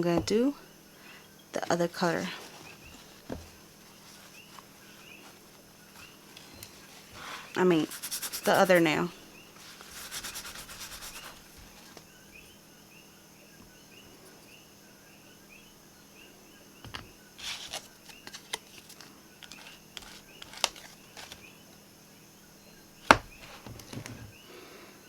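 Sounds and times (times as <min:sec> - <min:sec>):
faint chirping: 0:00.0 - 0:25.0.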